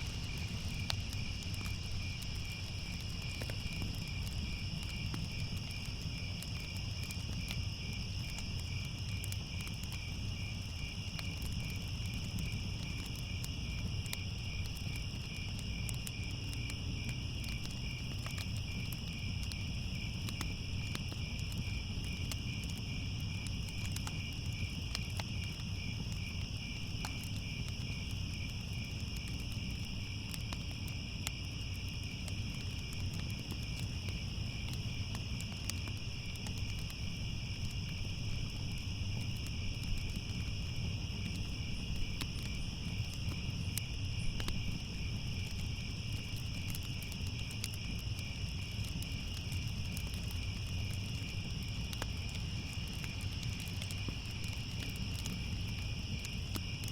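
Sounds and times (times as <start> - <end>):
crickets chirping: 0.0 - 56.9
fire rumbling and crackling: 0.0 - 56.9.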